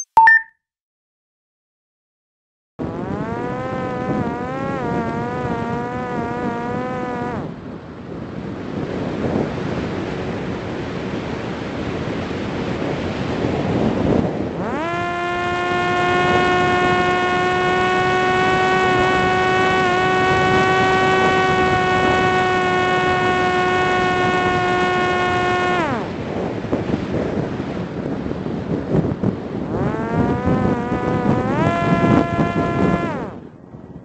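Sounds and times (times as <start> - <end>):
electric motor and propeller whine: 2.8 - 34.0
wind noise on microphone: 2.8 - 34.0.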